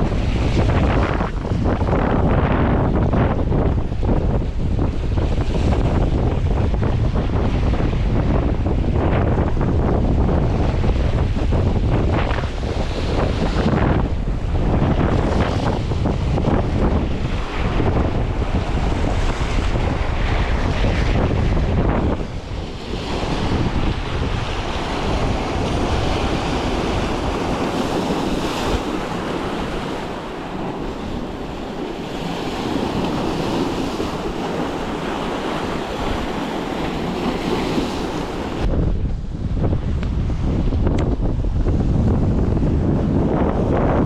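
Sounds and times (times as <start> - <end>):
sea waves washing in: 0.0 - 44.0
wind buffeting the microphone: 0.0 - 44.0.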